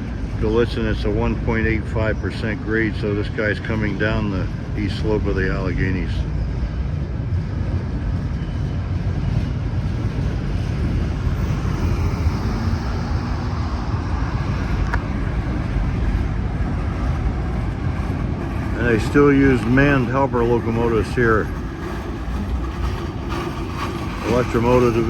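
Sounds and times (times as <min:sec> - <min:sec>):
railcar wheels rumbling on rails: 0:00.0 - 0:25.0.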